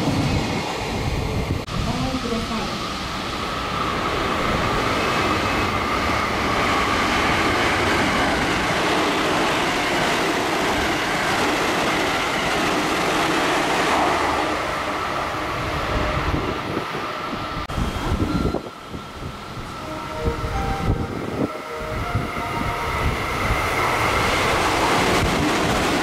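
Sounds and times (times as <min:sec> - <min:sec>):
train wheels rushing on rails: 0:00.0 - 0:26.0.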